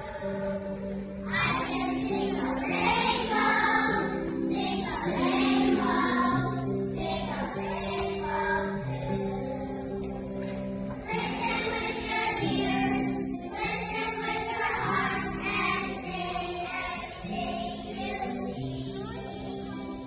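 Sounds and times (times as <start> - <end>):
children singing in unison: 0.0 - 20.0
musical accompaniment of held notes: 0.0 - 20.0.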